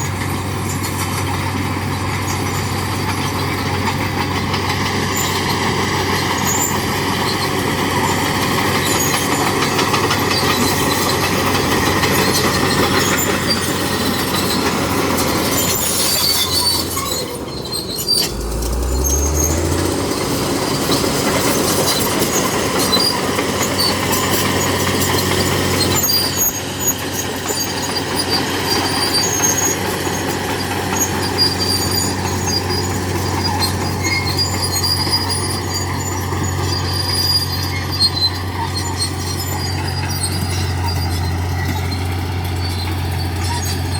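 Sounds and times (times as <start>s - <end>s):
bulldozer diesel engine running: 0.0s - 43.9s
steel tracks squeaking and clanking: 0.0s - 43.9s.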